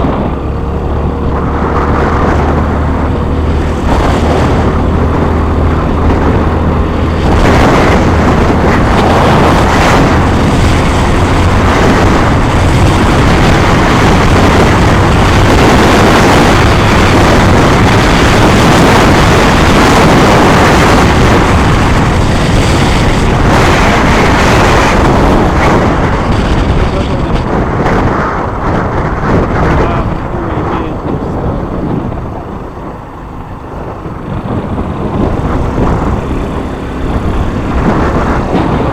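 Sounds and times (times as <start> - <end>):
low engine hum: 0.0 - 38.9
wind and road noise: 0.0 - 38.9.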